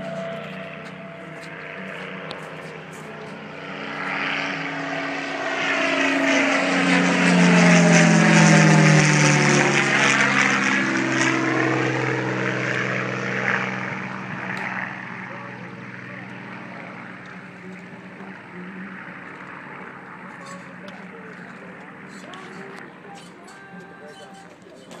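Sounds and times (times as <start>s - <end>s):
propeller plane passing overhead: 0.0s - 25.0s.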